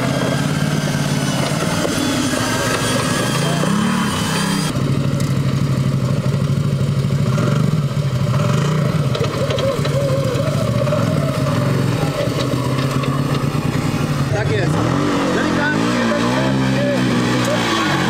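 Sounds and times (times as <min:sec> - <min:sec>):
engine revving at low revs: 0:00.0 - 0:18.0.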